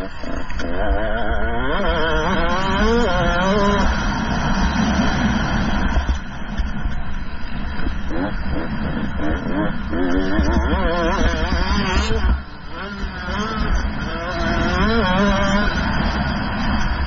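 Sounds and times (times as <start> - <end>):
two-stroke bike engine revving: 0.0 - 6.3, 7.7 - 17.0
wind rumble on microphone: 0.0 - 17.0.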